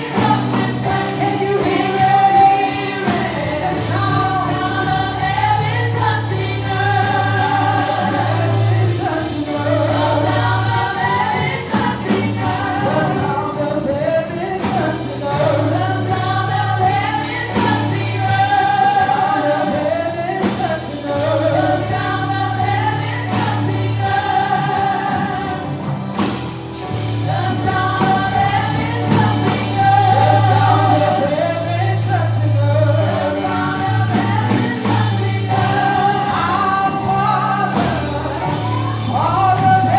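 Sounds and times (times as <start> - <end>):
gospel choir singing: 0.0 - 39.9
live band: 0.0 - 39.9
steady drumbeat: 0.0 - 39.9
sustained bass notes: 0.0 - 39.9.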